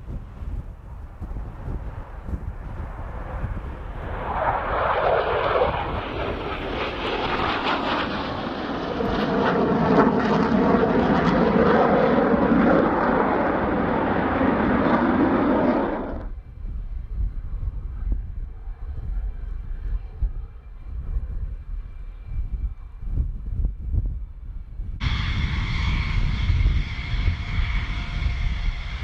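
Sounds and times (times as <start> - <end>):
jet engine rumble: 0.0 - 29.0.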